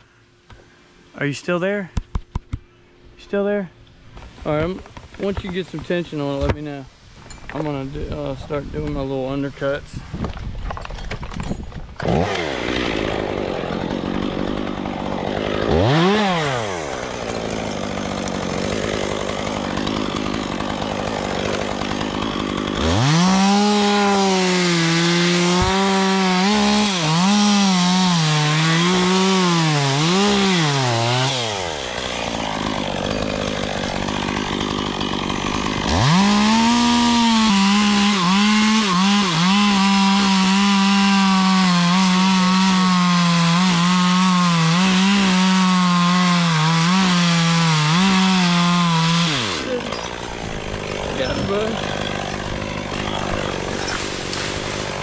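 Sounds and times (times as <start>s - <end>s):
chainsaw cutting into wood: 11.0s - 55.0s.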